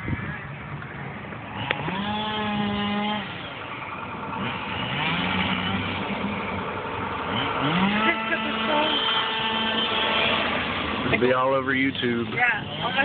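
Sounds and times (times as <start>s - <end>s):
car engine revving: 0.8s - 13.0s.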